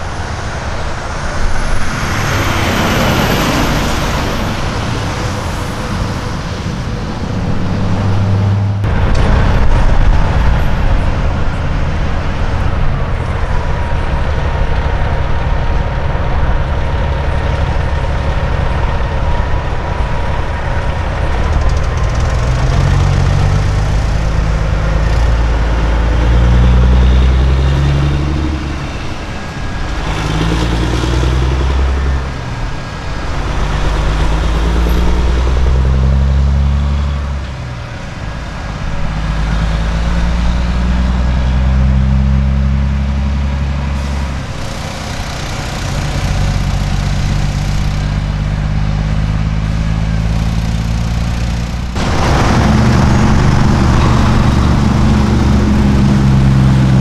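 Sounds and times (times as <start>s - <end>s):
passing vehicle road noise: 0.0s - 57.0s
truck diesel engine pulling away: 0.0s - 57.0s.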